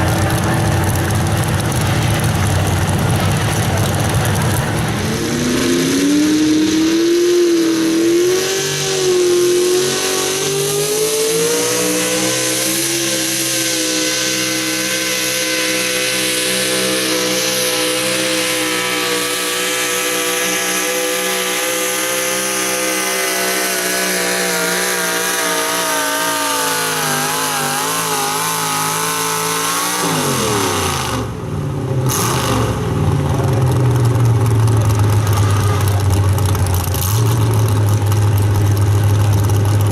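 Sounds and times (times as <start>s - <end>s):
engine idling: 0.0s - 7.0s, 10.3s - 39.9s
pulling truck engine revving: 0.0s - 39.9s.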